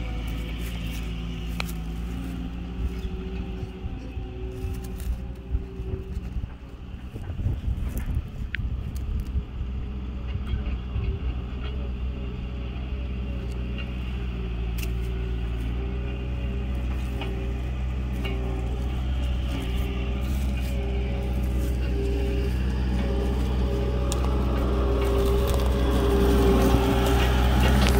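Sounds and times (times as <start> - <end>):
engine idling: 0.0 - 27.9.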